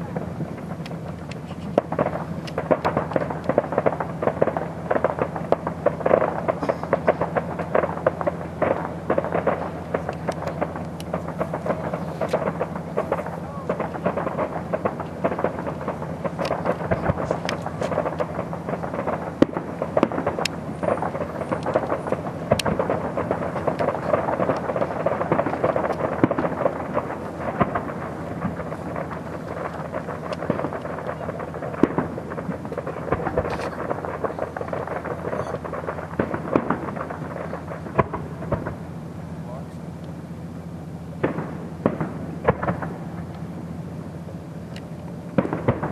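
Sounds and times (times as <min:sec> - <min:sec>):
rumbling booms: 0:00.0 - 0:39.7, 0:41.2 - 0:44.0, 0:45.2 - 0:45.9
fireworks bangs and crackles: 0:00.0 - 0:45.9.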